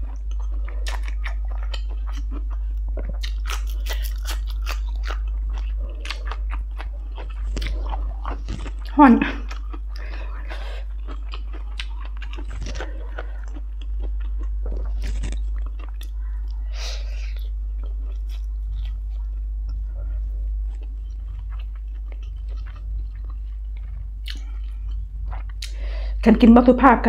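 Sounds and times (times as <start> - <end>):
crunchy chewing: 0.0 - 25.8
steady low hum: 0.0 - 27.0.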